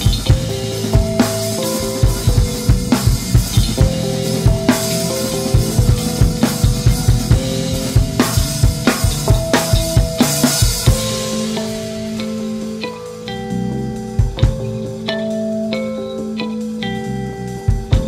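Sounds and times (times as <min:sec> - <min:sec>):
instrumental rock band music: 0:00.0 - 0:18.0.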